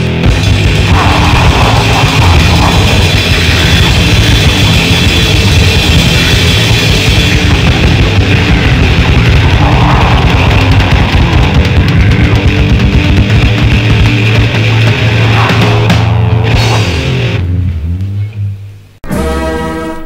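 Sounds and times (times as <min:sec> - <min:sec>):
fast dense drumming: 0:00.0 - 0:17.4
distorted guitars and bass: 0:00.0 - 0:19.9.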